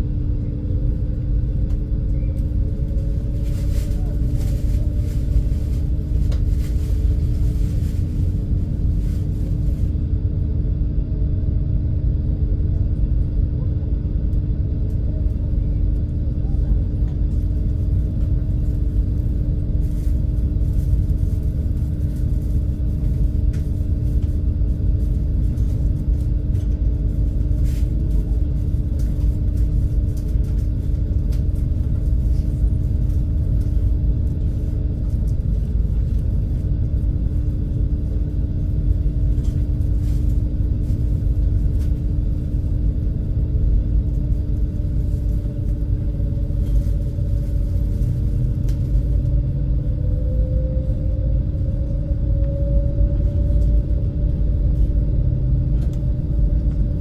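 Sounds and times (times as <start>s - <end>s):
ferry engines rumbling: 0.0s - 10.2s, 14.8s - 57.0s.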